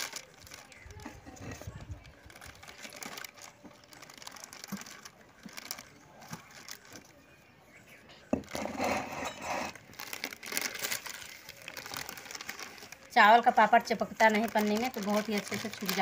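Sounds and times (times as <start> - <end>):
plastic sheet rustling: 0.0 - 7.1, 9.7 - 16.0
plastic sheet crinkling: 0.0 - 7.2, 9.7 - 16.0.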